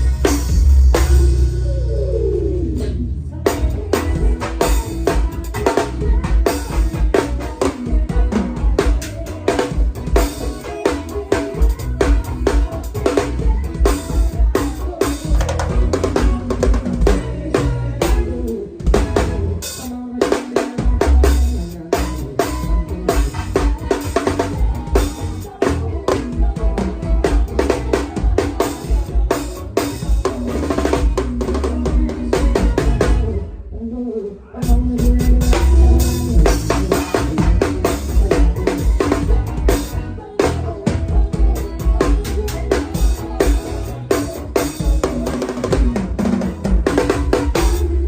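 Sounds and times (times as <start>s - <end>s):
drum kit groove: 0.0s - 33.6s, 34.6s - 48.0s
band with bass and keyboard: 0.0s - 48.0s.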